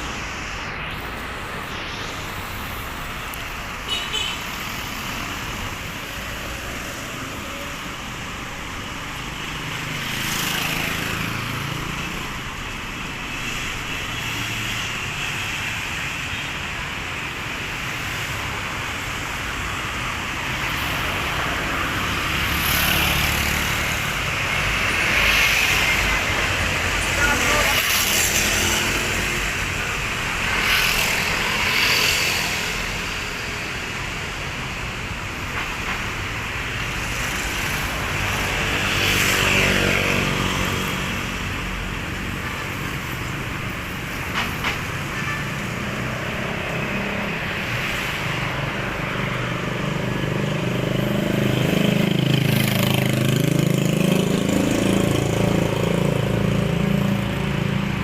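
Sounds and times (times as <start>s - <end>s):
street traffic passing: 0.0s - 58.0s.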